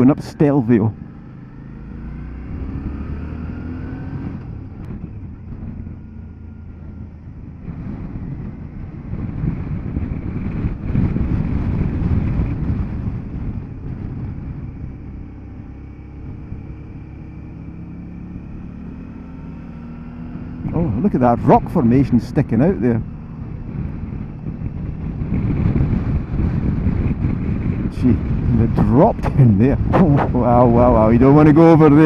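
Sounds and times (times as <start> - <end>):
motorcycle engine running: 0.0 - 32.0
wind rushing over microphone: 0.0 - 32.0.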